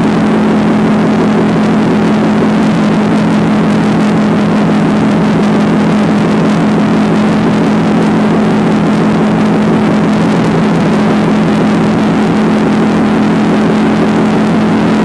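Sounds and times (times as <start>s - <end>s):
motorcycle engine cruising: 0.0s - 15.0s
wind rush: 0.0s - 15.0s.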